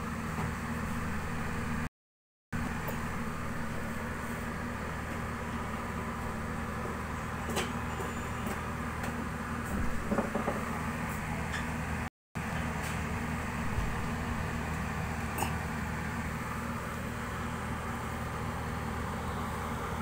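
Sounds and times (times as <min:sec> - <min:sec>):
ice maker humming: 0:02.6 - 0:11.4, 0:12.4 - 0:20.0.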